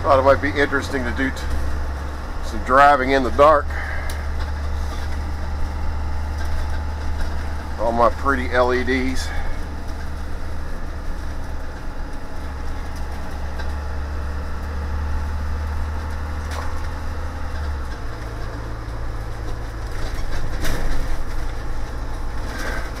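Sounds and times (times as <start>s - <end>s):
bus body ticks and creaks: 0.0s - 23.0s
bus engine drone: 0.0s - 23.0s.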